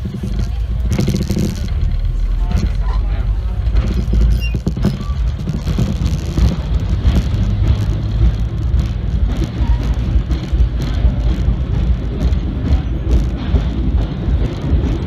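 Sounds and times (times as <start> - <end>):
subway car wheels rumbling: 0.0 - 15.0.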